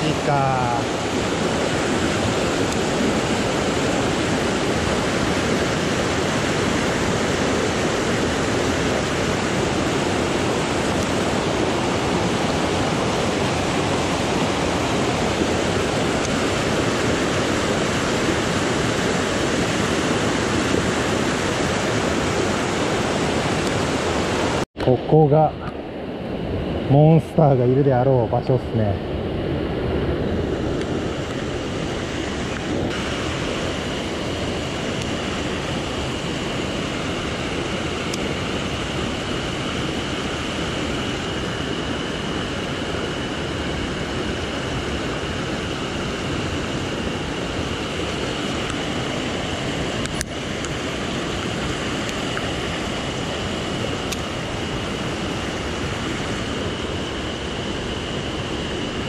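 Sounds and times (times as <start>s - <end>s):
mountain stream rushing: 0.0s - 59.0s.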